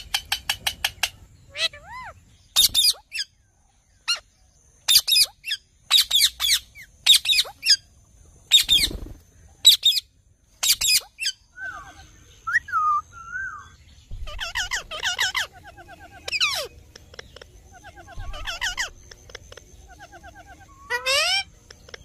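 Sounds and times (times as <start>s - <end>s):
parakeets screeching: 0.0s - 3.3s, 4.9s - 7.8s, 8.5s - 12.0s, 14.1s - 22.0s.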